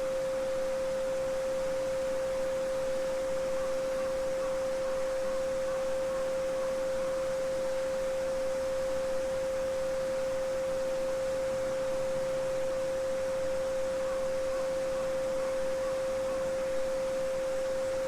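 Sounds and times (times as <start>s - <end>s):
steady sine tone: 0.0s - 18.0s.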